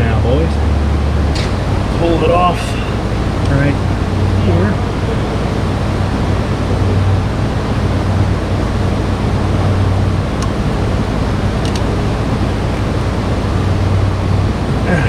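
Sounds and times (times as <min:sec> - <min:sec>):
low hum: 0:00.0 - 0:15.0
steady rushing noise: 0:00.0 - 0:15.0.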